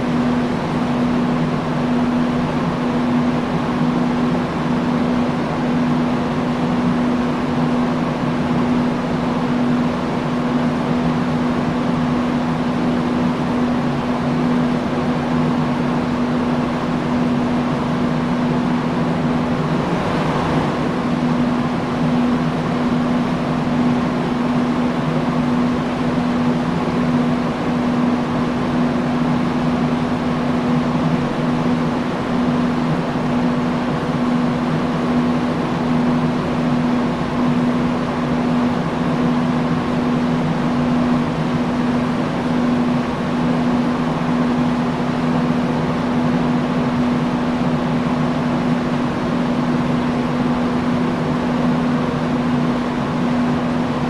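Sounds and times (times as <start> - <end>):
industrial fan running: 0.0 - 54.0.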